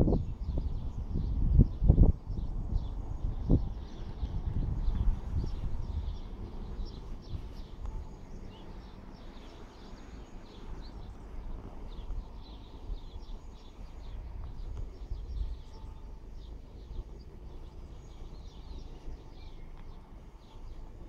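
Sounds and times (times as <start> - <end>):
low uneven rumble: 0.0 - 21.0
small birds chirping: 0.0 - 21.0.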